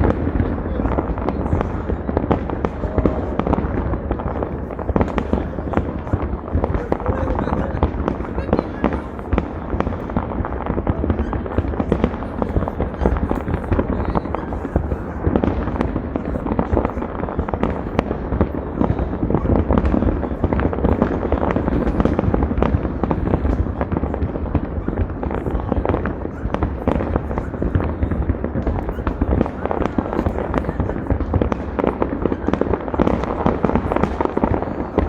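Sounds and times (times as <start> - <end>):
fireworks and firecrackers banging: 0.0 - 35.0.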